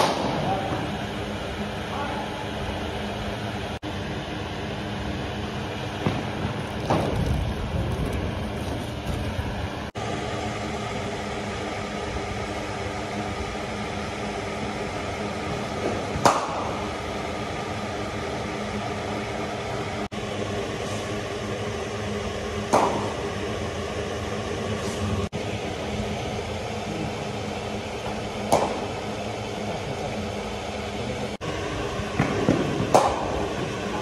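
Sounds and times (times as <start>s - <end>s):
steady mechanical hum: 0.0s - 34.0s.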